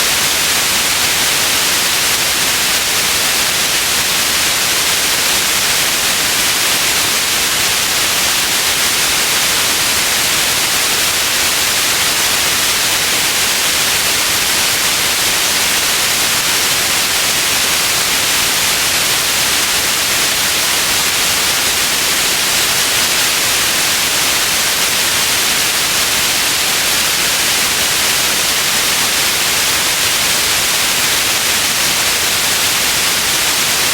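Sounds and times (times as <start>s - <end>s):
white noise hiss: 0.0s - 33.9s.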